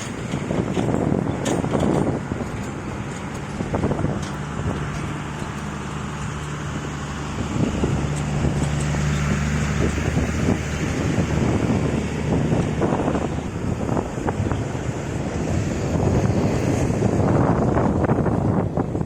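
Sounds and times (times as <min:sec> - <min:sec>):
engine running steadily: 0:00.0 - 0:19.0
wind on microphone: 0:00.0 - 0:19.0.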